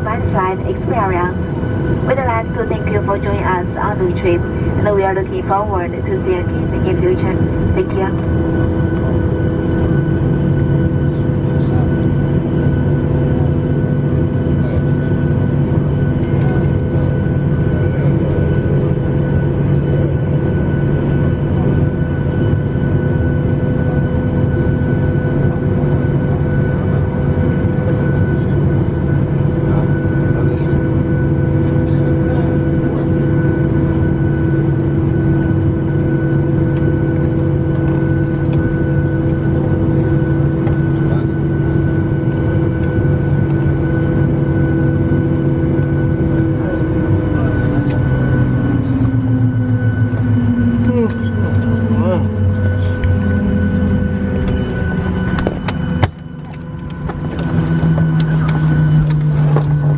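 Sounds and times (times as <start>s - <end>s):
jet engines idling cabin hum: 0.0s - 59.9s.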